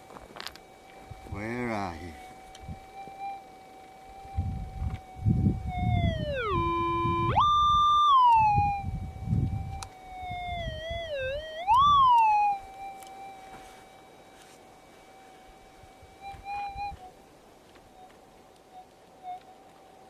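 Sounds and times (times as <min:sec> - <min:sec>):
metal detector tone: 0:00.2 - 0:17.2.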